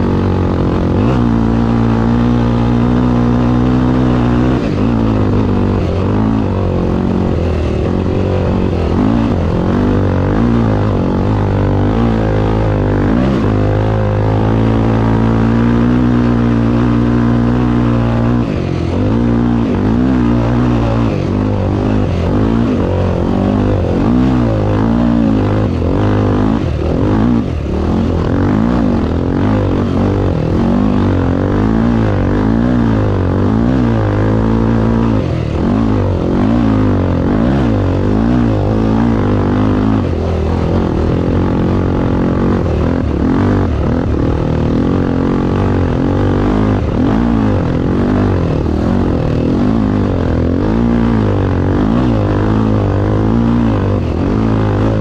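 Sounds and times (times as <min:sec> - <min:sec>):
racing engine revving: 0:00.0 - 0:55.0.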